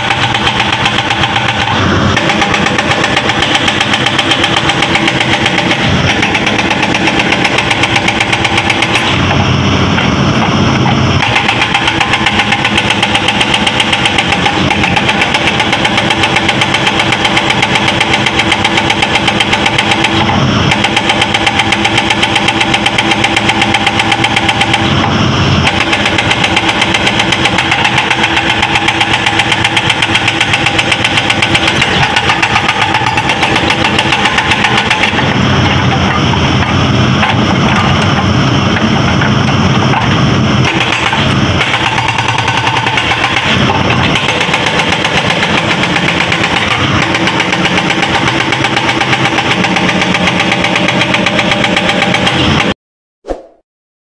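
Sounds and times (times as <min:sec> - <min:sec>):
diesel engine running: 0:00.0 - 0:52.8
hydraulic breaker pounding rock: 0:00.0 - 0:52.8.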